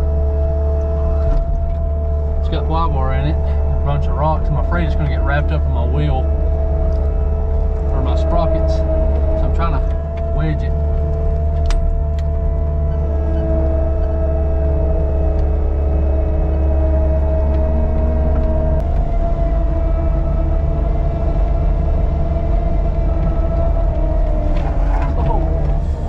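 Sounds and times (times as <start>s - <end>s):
diesel engine under load: 0.0s - 26.0s
high whine: 0.0s - 26.0s.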